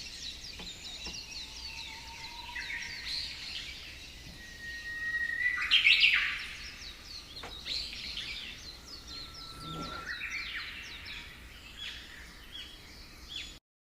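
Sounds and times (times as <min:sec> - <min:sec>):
birds chirping: 0:00.0 - 0:13.6
long whistled bird notes: 0:00.0 - 0:13.6.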